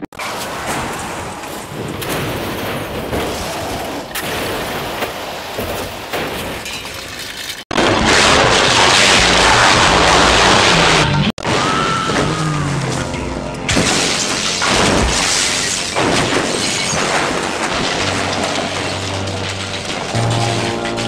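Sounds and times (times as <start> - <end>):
cars crashing and crunching: 0.0 - 21.0
sharp bangs: 0.0 - 21.0.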